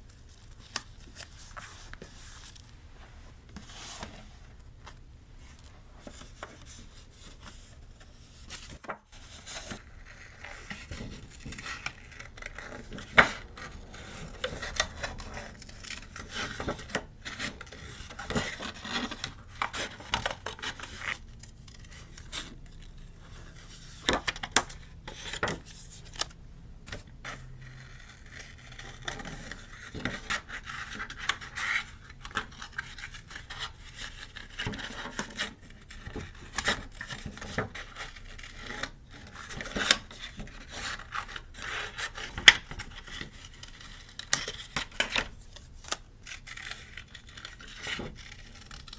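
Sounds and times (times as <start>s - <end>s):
paper rubbing and scraping: 3.6s - 4.4s, 6.0s - 26.3s, 27.2s - 48.9s.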